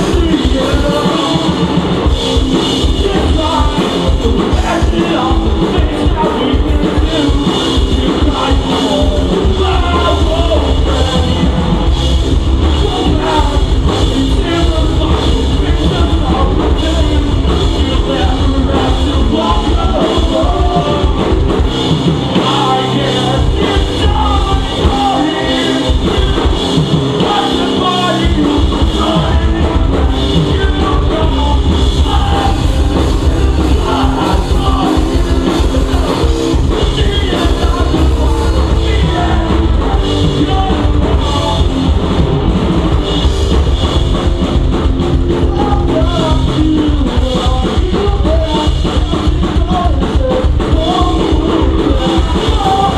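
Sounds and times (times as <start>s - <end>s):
person singing: 0.0s - 42.0s, 45.1s - 52.9s
pop punk band playing live: 0.0s - 52.9s.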